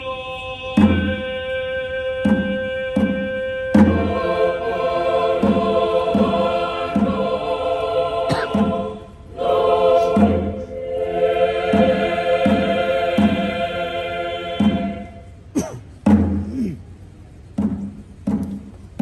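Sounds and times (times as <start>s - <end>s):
choir singing held chords: 0.0s - 15.8s
low drumbeats: 0.6s - 19.0s.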